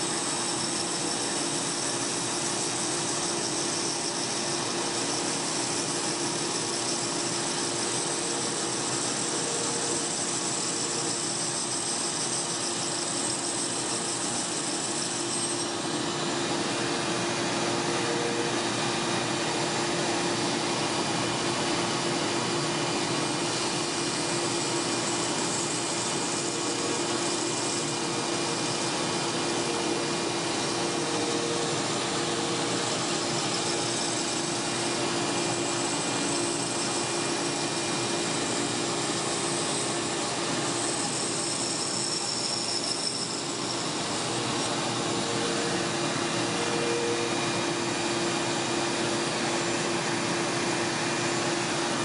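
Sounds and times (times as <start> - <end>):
bandsaw cutting: 0.0 - 20.7, 23.0 - 52.0.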